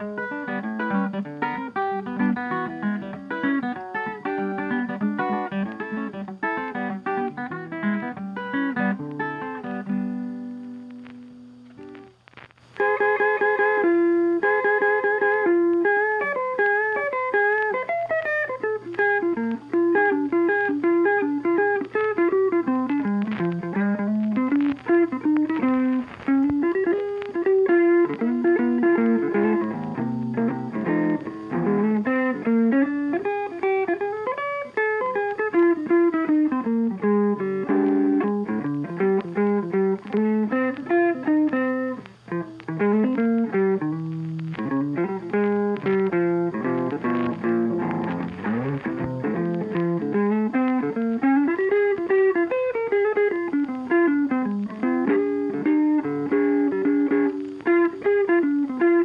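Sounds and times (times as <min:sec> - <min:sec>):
plucked guitar tune: 0:00.0 - 0:59.0.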